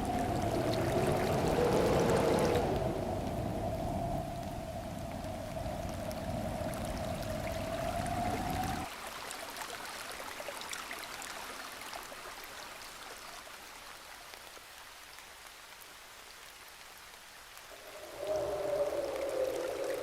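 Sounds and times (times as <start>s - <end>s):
crackling hiss with clicks: 0.0s - 20.0s.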